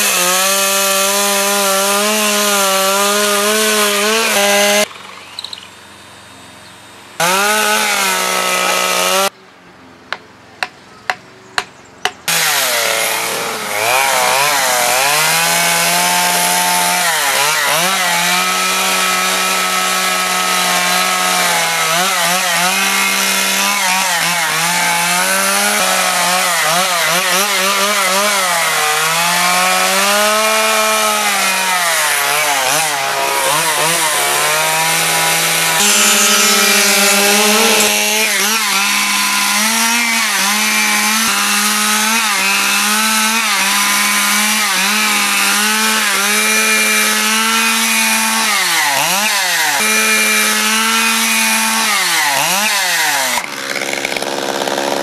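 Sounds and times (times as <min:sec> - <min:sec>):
chainsaw cutting wood: 0:00.0 - 0:04.9, 0:07.2 - 0:09.3, 0:12.3 - 0:55.0.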